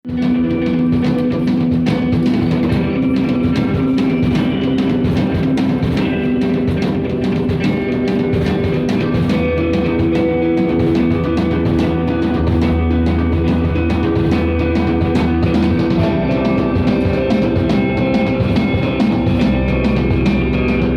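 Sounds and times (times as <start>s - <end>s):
rock band playing: 0.0s - 20.9s.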